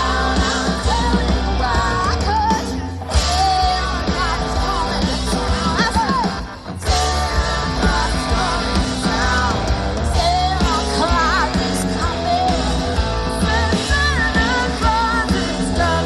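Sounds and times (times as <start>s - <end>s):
person singing: 0.0s - 16.0s
pop-rock band playing: 0.0s - 16.0s.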